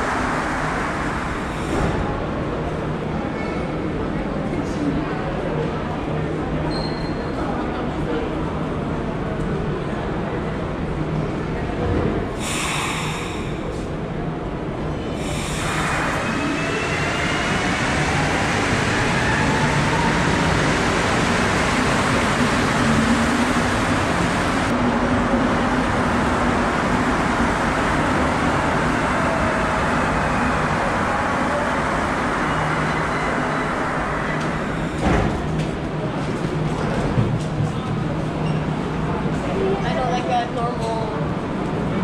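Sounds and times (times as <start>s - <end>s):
loud train rumble: 0.0s - 6.7s, 7.4s - 42.0s.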